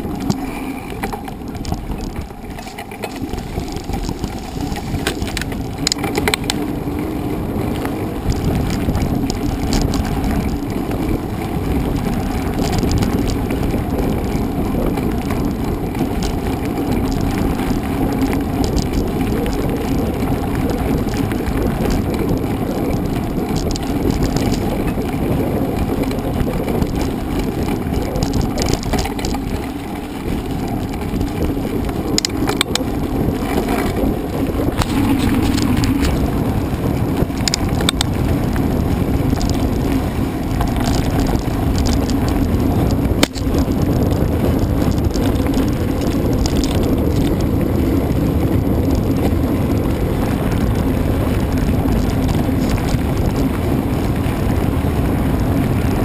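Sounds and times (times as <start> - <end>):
bike rattles and knocks: 0.0 - 56.0
bike tyres rolling: 0.0 - 56.0
wind noise: 0.0 - 56.0.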